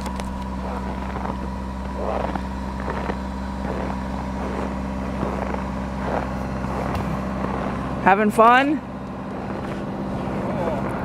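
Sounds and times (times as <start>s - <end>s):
steady mechanical hum: 0.0s - 11.0s
broom brushing snow off car: 0.6s - 11.0s.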